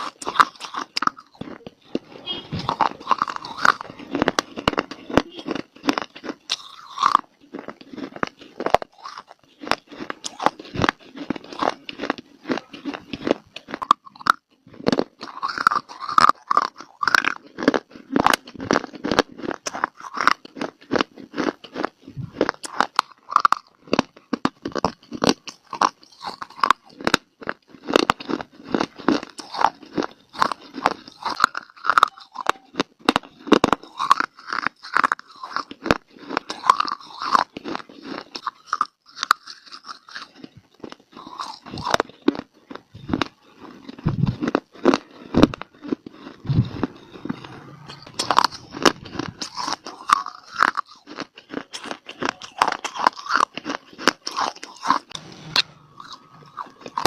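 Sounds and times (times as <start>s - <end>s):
crunchy biting and chewing: 0.0s - 57.0s.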